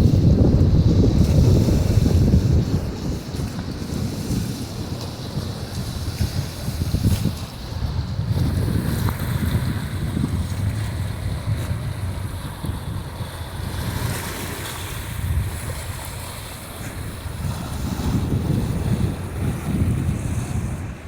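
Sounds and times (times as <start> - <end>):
surf washing onto shore: 0.0 - 21.0
wind buffeting microphone: 0.0 - 21.0.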